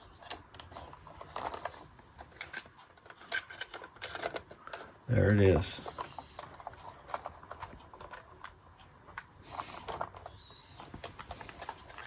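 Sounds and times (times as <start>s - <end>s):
toy train clicks and taps: 0.0s - 12.0s.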